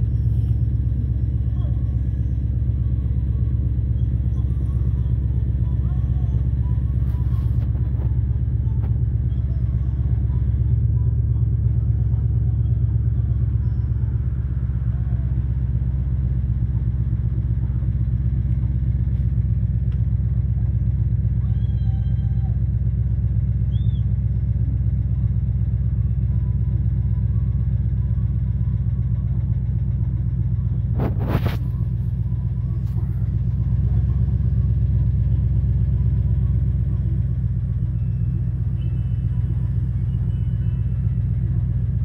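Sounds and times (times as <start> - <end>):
idling engine rumble: 0.0 - 42.0.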